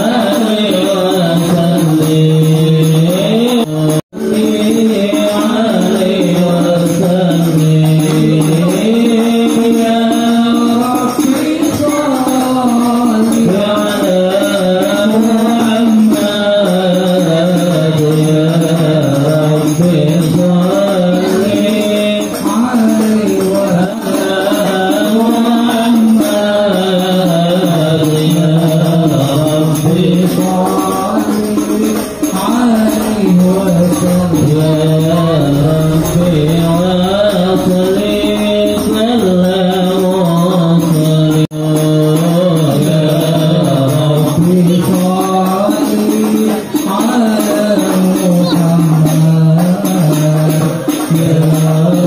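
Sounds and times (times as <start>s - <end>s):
devotional chant sung slowly: 0.0s - 52.0s.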